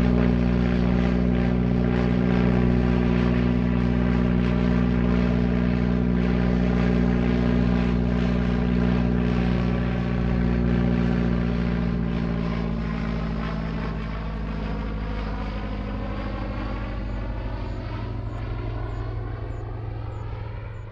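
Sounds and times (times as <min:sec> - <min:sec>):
propeller plane engine hum: 0:00.0 - 0:20.9.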